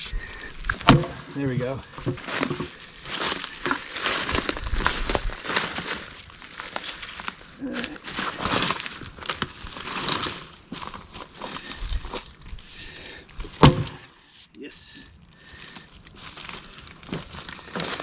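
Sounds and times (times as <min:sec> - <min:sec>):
wood rustling and crackling: 0:00.0 - 0:14.2, 0:15.2 - 0:18.0.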